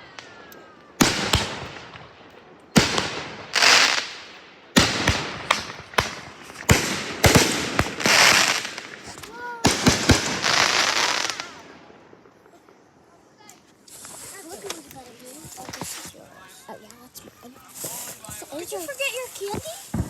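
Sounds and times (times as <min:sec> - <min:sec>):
crackling hiss of fireworks: 0:00.0 - 0:20.0
fireworks bangs: 0:00.0 - 0:20.0.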